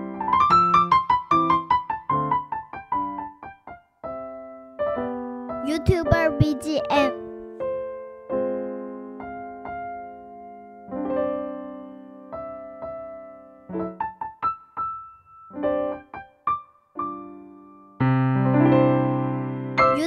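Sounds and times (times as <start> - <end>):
gentle piano tune: 0.0 - 20.0.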